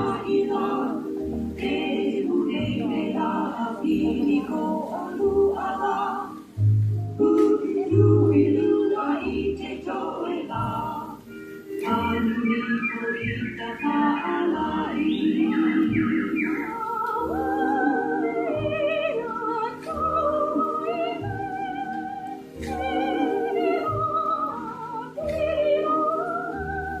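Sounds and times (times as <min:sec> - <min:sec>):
held accompaniment with low pulse: 0:00.0 - 0:27.0
warbling whistle-like voices singing: 0:00.0 - 0:27.0.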